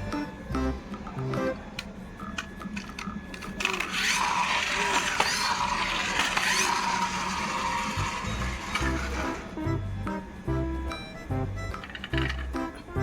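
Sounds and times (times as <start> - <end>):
small motor whirring: 1.0 - 10.3, 11.0 - 12.8.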